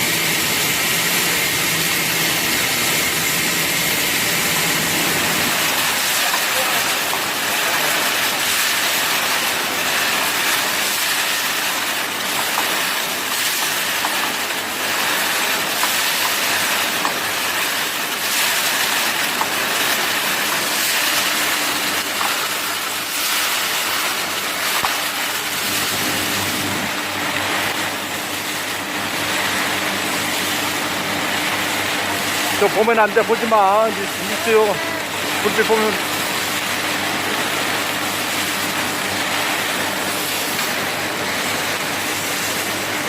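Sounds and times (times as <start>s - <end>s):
arc welding crackling hiss: 0.0s - 43.0s.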